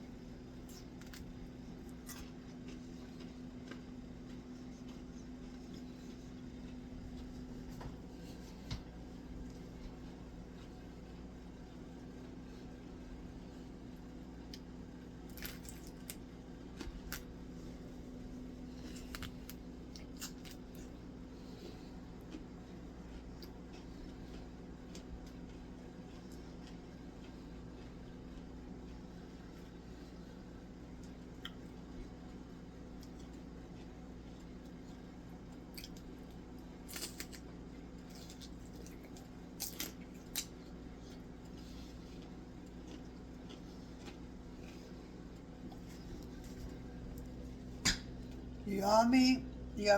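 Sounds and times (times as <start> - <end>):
crunching while eating: 0.0 - 48.6
steady low hum: 0.0 - 49.9.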